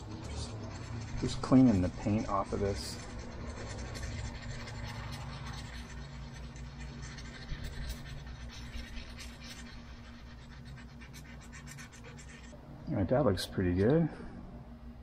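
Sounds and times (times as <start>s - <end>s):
paint scraped off metal: 0.0s - 12.5s.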